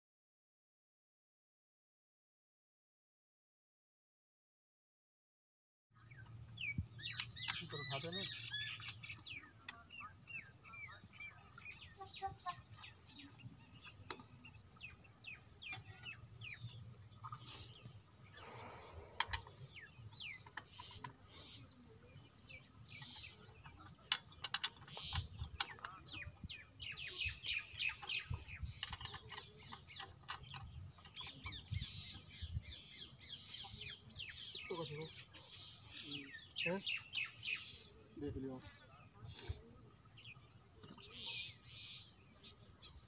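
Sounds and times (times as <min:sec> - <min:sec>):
birds chirping: 0:06.0 - 0:43.0.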